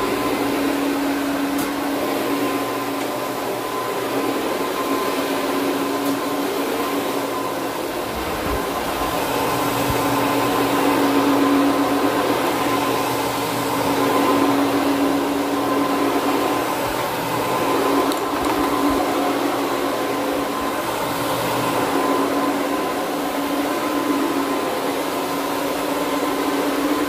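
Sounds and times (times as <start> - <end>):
carpet machine motor hum and whine: 0.0 - 27.0.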